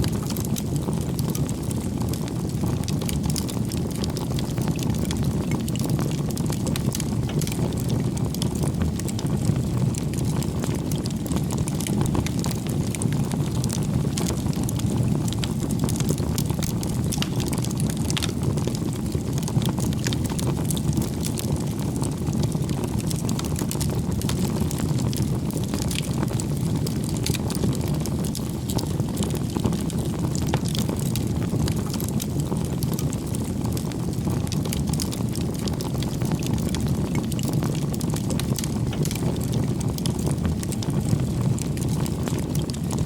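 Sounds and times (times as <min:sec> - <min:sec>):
campfire flames rumbling: 0:00.0 - 0:43.0
firewood crackling and popping: 0:00.0 - 0:43.0.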